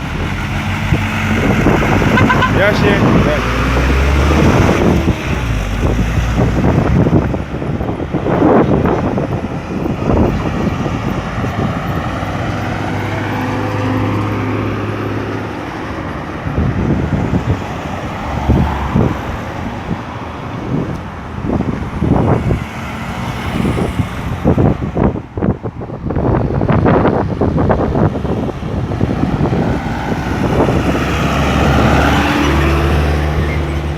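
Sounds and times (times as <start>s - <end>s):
cars passing: 0.0s - 33.9s
low rumbles and gusts: 0.0s - 33.9s.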